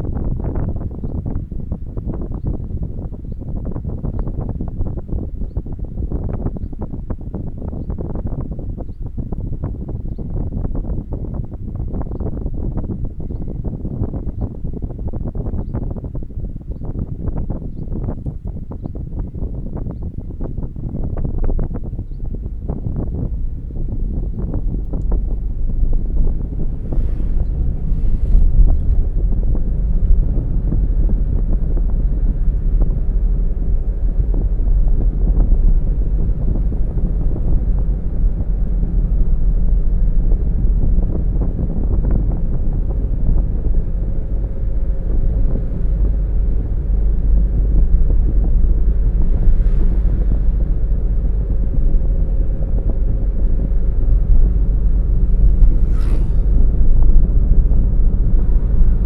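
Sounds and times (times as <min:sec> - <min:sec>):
car road and engine rumble: 0:00.0 - 0:59.0
wind buffeting microphone: 0:00.0 - 0:59.0.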